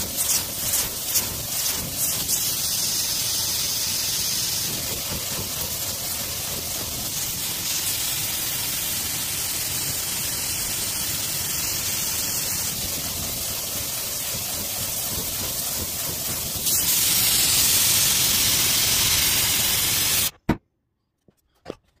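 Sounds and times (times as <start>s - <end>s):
gas torch flame hissing: 0.0s - 20.3s.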